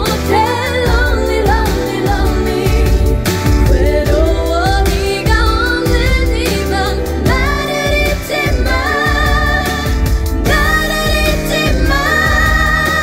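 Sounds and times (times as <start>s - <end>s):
woman singing pop song: 0.0s - 13.0s
instrumental accompaniment: 0.8s - 13.0s.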